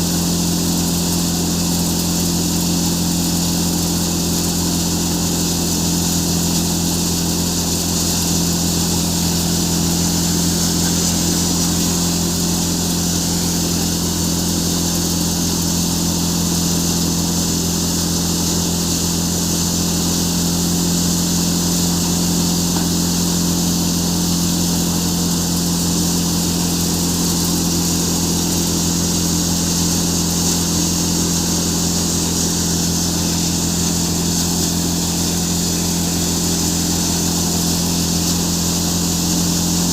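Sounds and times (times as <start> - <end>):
threshing machine hiss: 0.0 - 39.9
tractor diesel engine drone: 0.0 - 39.9.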